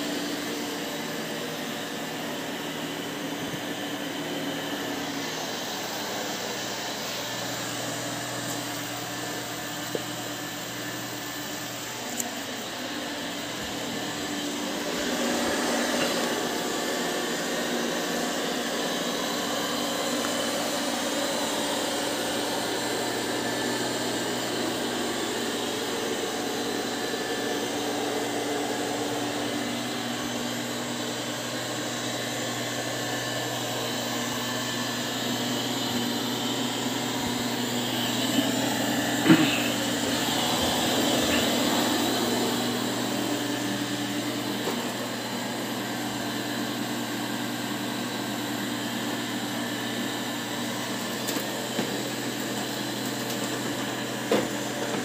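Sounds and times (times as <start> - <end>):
robot vacuum whirring: 0.0 - 55.0.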